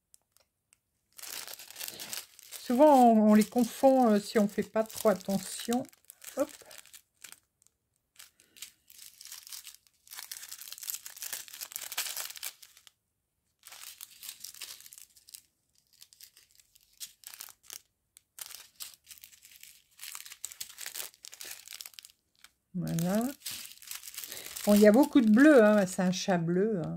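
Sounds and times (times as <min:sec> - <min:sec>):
plastic sachets crinkling: 0:01.1 - 0:13.0, 0:13.6 - 0:26.9.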